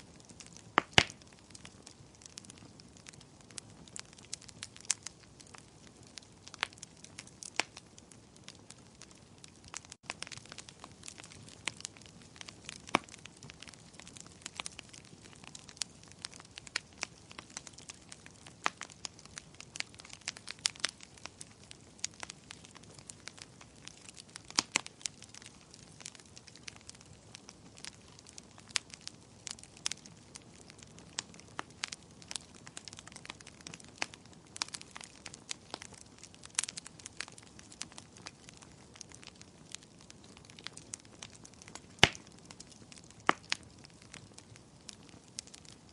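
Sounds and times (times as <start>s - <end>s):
wood fire crackling: 0.0s - 45.9s
sharp pops from fire: 0.1s - 45.9s.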